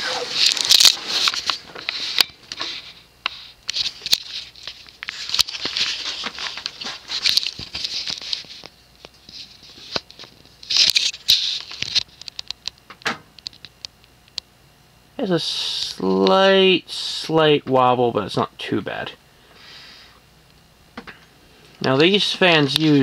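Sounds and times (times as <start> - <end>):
ceiling fan running: 0.0 - 23.0.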